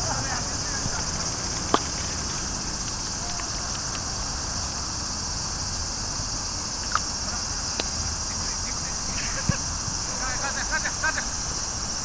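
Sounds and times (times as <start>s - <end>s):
insect chorus chirring: 0.0s - 12.0s.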